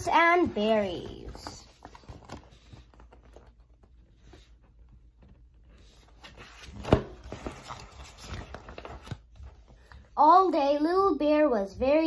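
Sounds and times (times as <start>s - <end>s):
paper rustling: 0.1s - 10.0s.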